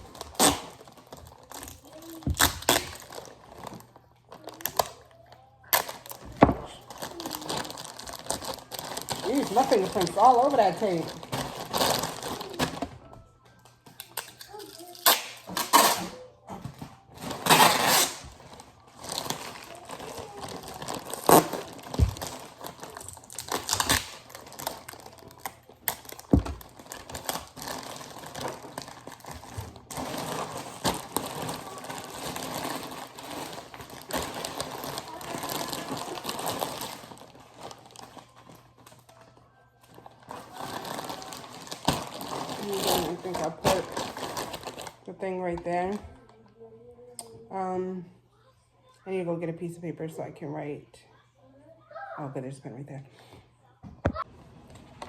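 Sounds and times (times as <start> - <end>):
plastic and tape crinkling: 0.0 - 47.0.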